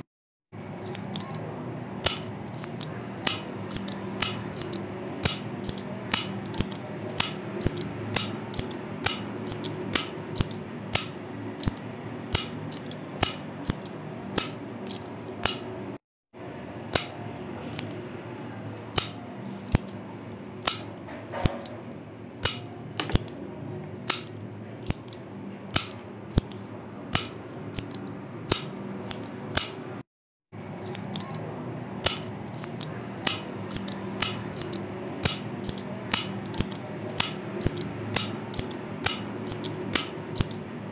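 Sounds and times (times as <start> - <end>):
low background hum: 0.0 - 30.0, 30.6 - 40.9.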